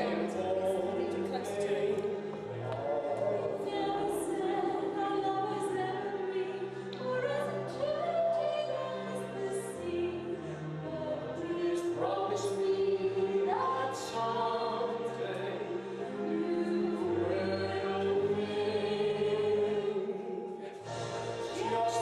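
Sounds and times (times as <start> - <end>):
vocal ensemble singing in harmony: 0.0 - 22.0.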